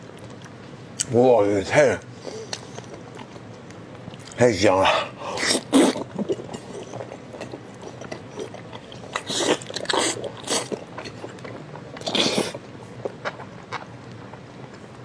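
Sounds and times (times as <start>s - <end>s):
chewing and biting: 0.0s - 1.1s, 2.2s - 4.4s, 5.2s - 15.0s.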